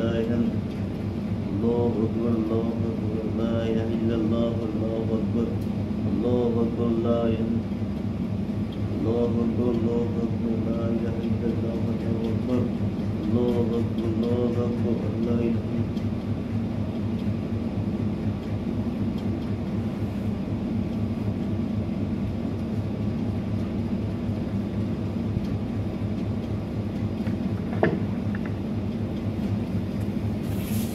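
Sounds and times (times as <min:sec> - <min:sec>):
machine humming: 0:00.0 - 0:30.9.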